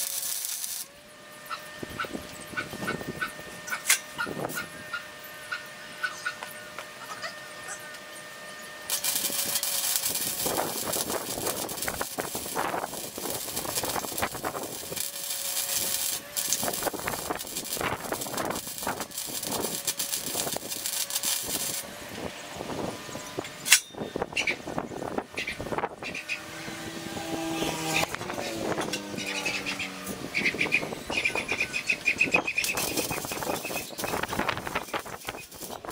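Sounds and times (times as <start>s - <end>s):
welding arc crackling hiss: 0.0s - 6.6s, 8.8s - 23.0s, 27.6s - 35.9s.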